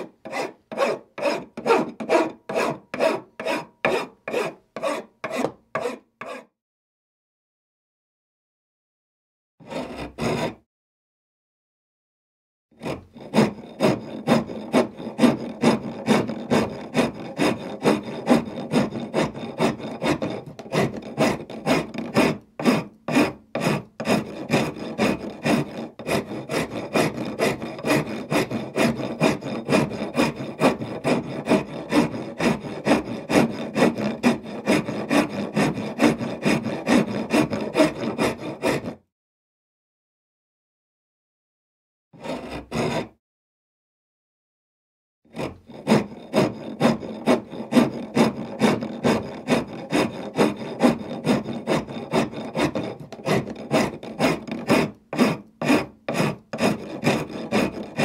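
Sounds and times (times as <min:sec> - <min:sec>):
file rasping on wood: 0:00.0 - 0:06.5, 0:09.6 - 0:10.6, 0:12.8 - 0:39.1, 0:42.2 - 0:43.2, 0:45.3 - 0:58.0.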